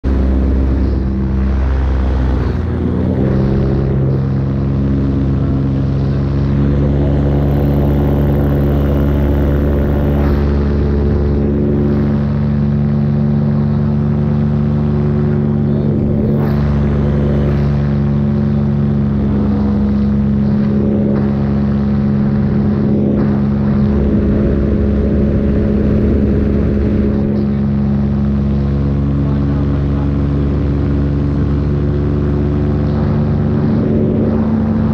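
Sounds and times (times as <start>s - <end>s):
paramotor engine drone: 0.0s - 34.9s.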